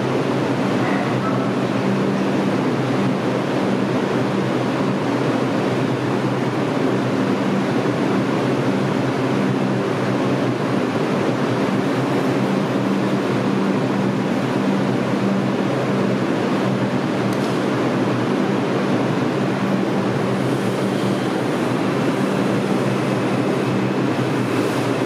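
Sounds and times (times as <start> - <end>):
subway train humming: 0.0 - 25.0.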